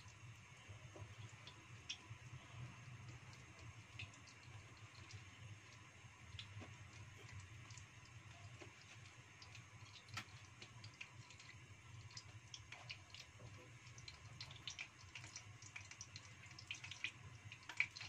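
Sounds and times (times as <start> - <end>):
oil ticking and popping: 0.0 - 18.0.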